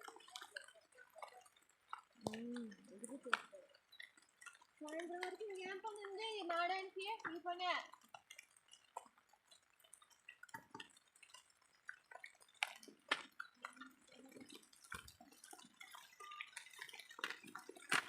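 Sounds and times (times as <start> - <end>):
heavy rain drips and taps: 0.0 - 18.0
single raindrops ticking: 0.0 - 18.0.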